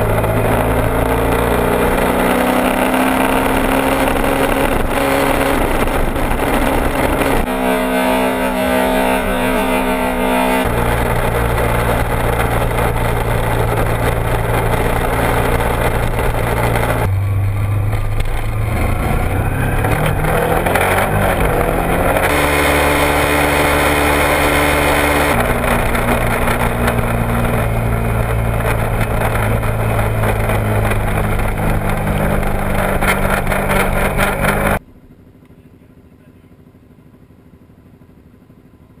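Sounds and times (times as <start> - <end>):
wind noise: 0.0 - 7.5, 9.1 - 34.8
motorcycle engine: 0.0 - 39.0.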